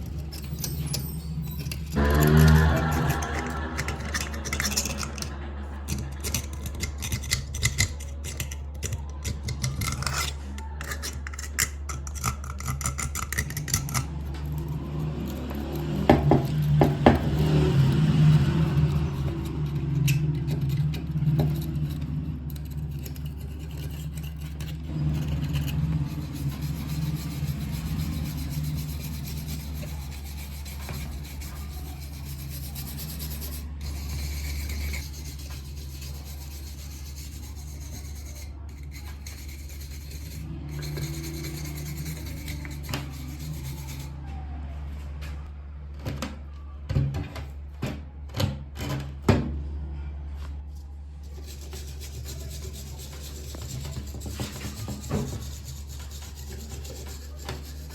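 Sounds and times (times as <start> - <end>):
scraping on rusty metal: 0.0 - 44.2, 51.2 - 57.9.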